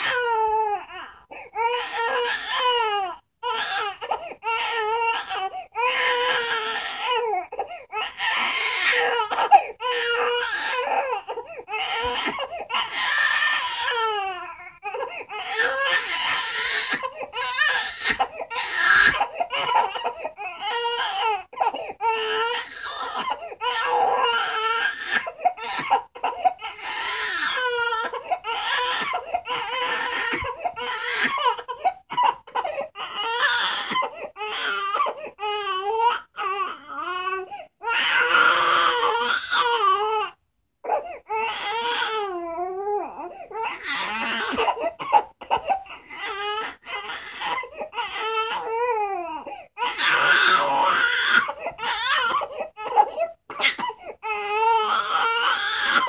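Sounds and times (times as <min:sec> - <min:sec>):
infant crying: 0:00.0 - 0:56.0.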